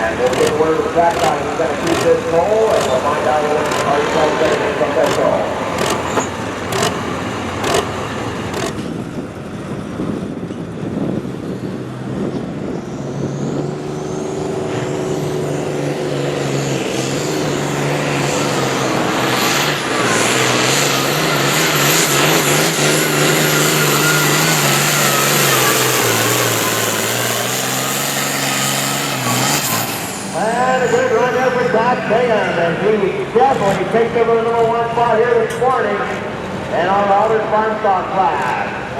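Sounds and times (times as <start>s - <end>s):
tractor engine working hard: 0.0s - 38.9s.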